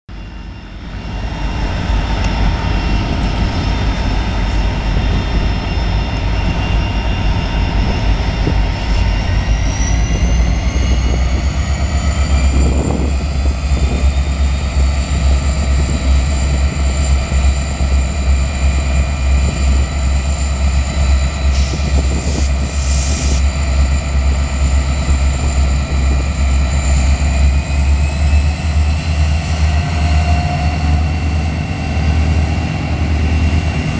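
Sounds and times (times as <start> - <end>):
diesel locomotive engine droning: 0.1 - 33.9.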